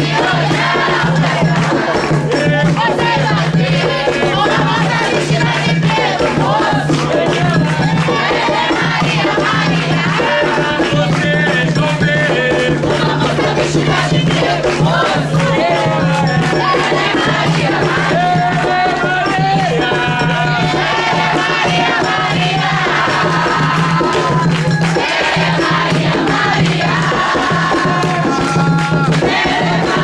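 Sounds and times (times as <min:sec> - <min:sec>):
voices singing and calling out: 0:00.0 - 0:30.0.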